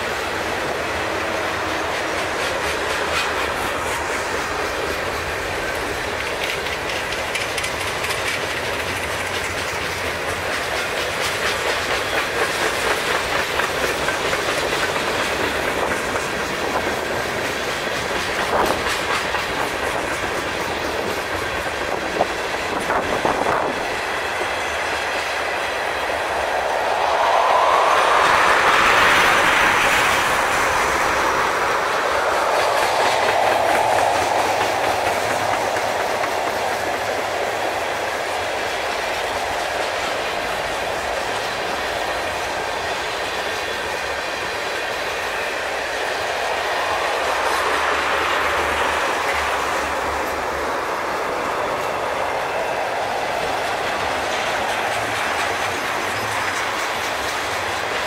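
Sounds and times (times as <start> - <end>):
steel wheels rushing on rail: 0.0 - 58.0.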